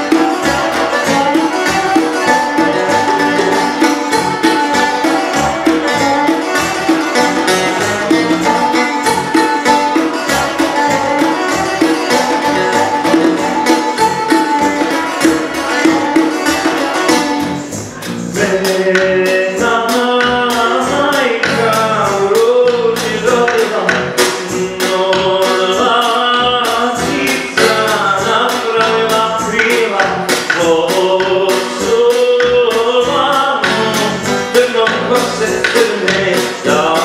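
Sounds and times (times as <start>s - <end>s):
man singing: 0.0s - 37.0s
plucked lute strumming: 0.0s - 37.0s.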